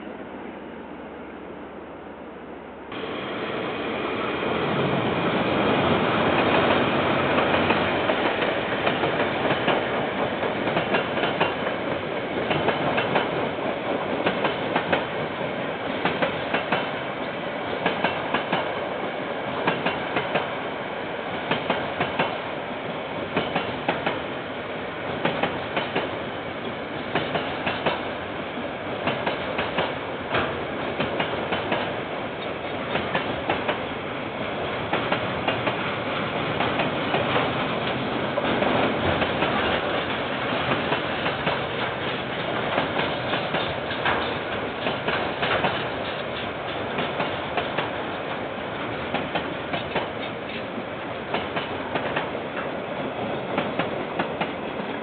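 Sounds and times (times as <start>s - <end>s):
diesel freight train passing: 0.0s - 55.0s
train wheels clicking over rail joints: 6.0s - 17.1s, 17.7s - 20.6s, 21.3s - 24.3s, 25.1s - 28.1s, 29.0s - 33.9s, 34.6s - 55.0s.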